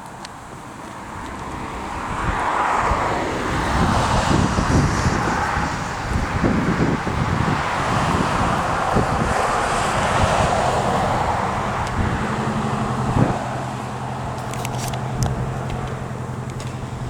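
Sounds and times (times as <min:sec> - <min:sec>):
car passing: 0:00.0 - 0:17.0
low engine hum: 0:00.0 - 0:17.0
wind rumbling on microphone: 0:00.0 - 0:17.0.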